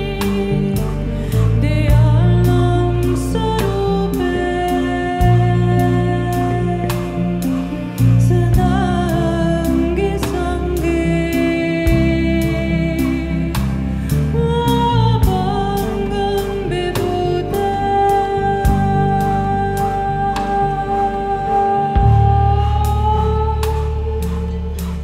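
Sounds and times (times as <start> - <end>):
deep bass line: 0.0 - 25.0
person singing: 0.0 - 25.0.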